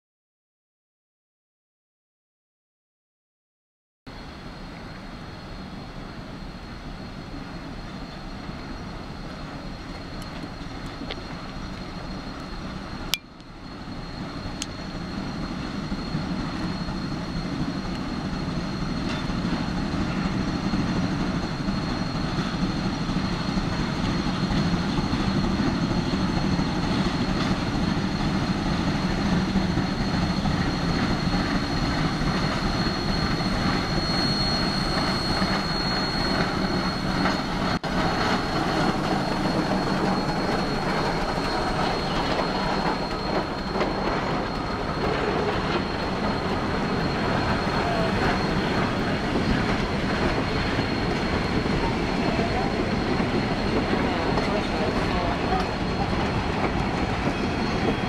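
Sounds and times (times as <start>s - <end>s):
wheels rumbling on rail: 4.2s - 58.0s
steam locomotive exhaust: 4.3s - 58.0s.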